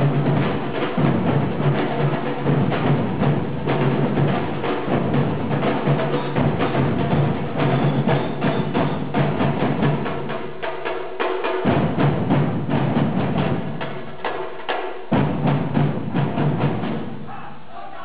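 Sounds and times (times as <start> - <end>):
drums playing: 0.0 - 17.3.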